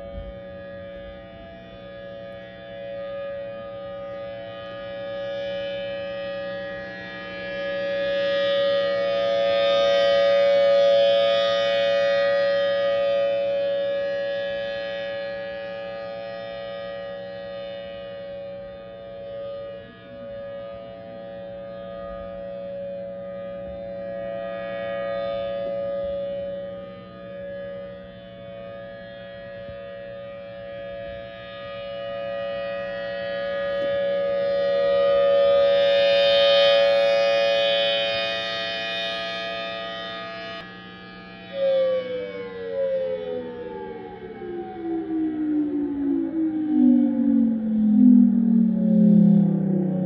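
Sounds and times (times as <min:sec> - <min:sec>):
warning siren steady tone: 0:00.0 - 0:50.0.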